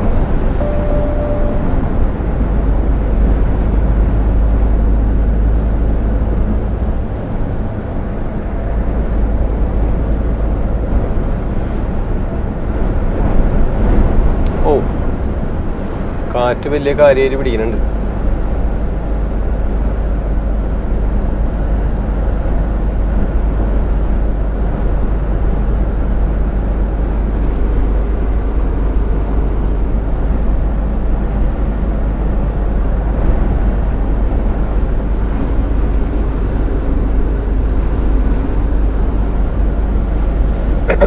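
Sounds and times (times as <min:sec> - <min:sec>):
truck engine rumble: 0:00.0 - 0:41.0.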